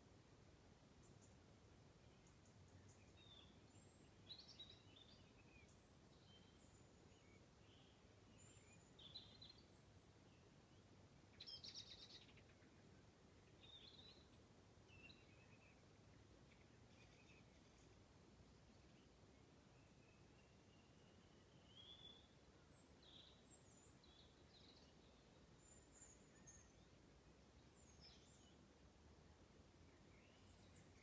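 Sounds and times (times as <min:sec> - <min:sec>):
low background hiss: 0:00.0 - 0:31.0
songbirds chirping and whistling: 0:02.1 - 0:18.0, 0:18.7 - 0:28.7, 0:29.8 - 0:31.0.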